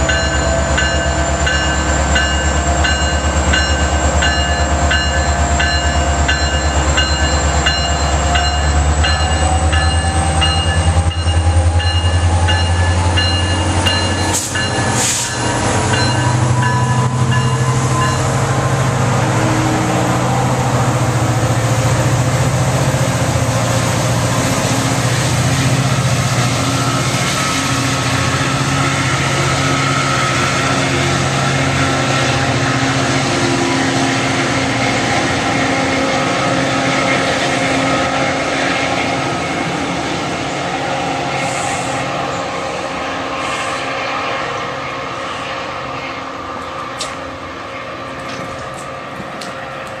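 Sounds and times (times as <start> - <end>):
train wheels rolling on rails: 0.0 - 50.0.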